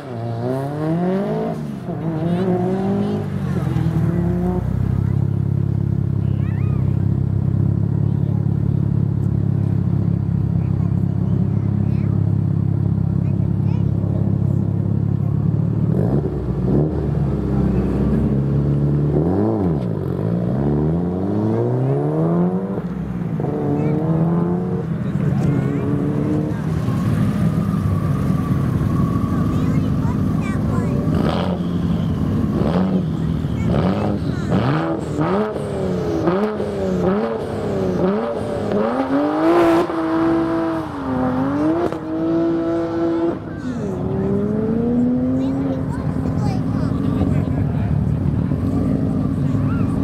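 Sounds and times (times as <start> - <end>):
race car engine revving: 0.0 - 50.0.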